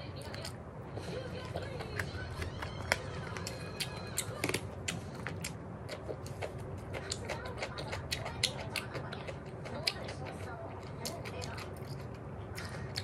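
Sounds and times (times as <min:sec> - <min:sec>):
chewing food: 0:00.0 - 0:13.0
faint low hum: 0:00.0 - 0:13.0.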